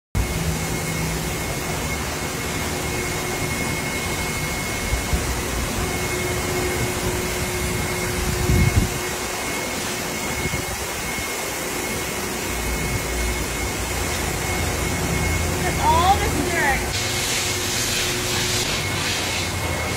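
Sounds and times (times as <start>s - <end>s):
whirring machine: 0.2s - 19.9s.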